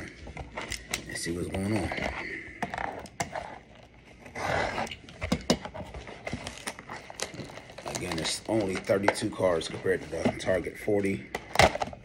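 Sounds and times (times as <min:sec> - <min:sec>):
cardboard rustling: 0:00.0 - 0:11.9.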